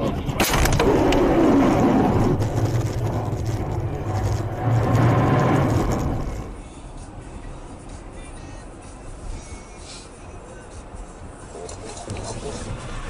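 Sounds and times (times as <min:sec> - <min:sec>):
car rumbling and scraping: 0:00.0 - 0:13.0.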